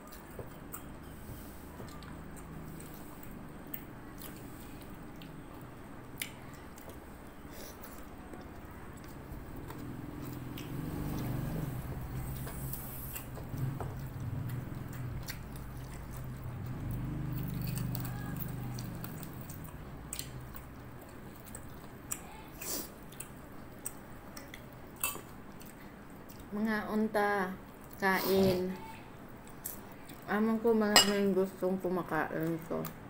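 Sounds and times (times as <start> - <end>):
person chewing rice: 0.0 - 26.5.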